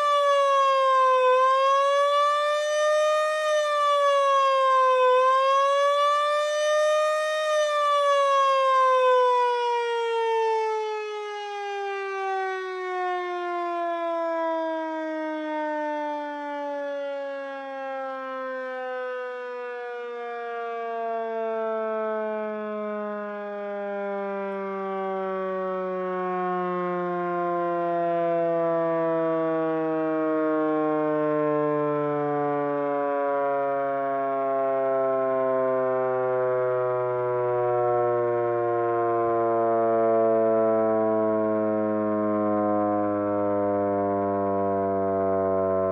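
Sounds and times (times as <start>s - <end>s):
siren winding down: 0.0s - 45.9s.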